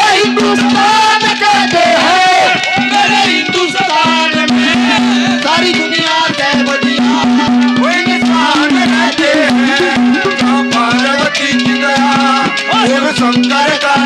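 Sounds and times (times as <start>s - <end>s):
folk melody over held note: 0.0s - 14.0s
quick hand percussion: 0.0s - 14.0s.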